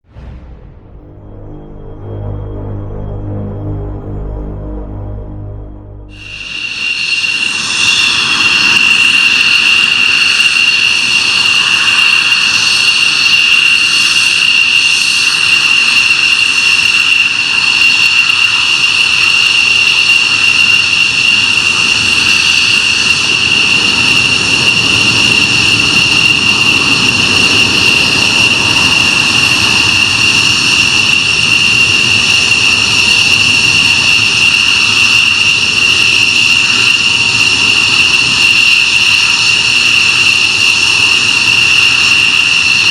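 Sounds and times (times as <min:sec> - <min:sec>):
jet engines roaring: 0:00.0 - 0:42.9.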